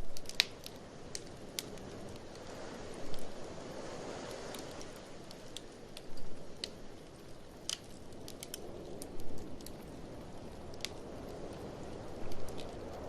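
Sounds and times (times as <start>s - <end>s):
blizzard wind rushing: 0.0s - 13.0s
wood fire crackling and popping: 0.0s - 13.0s.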